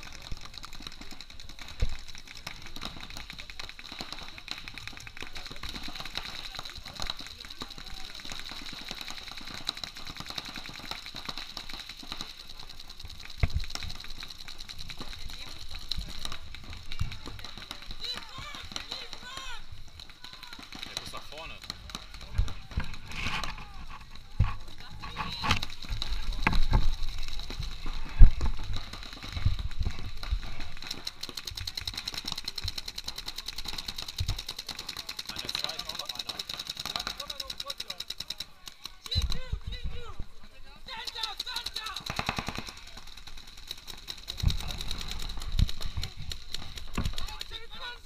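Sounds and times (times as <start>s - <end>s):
paintball markers firing: 0.0s - 39.6s, 40.9s - 48.0s.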